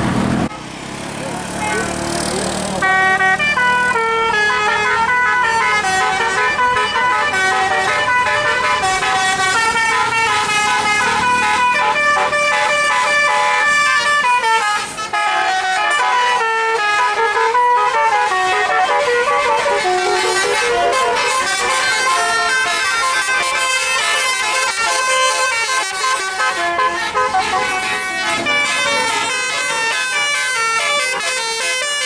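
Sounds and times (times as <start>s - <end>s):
musical air horn tune: 2.8s - 32.0s.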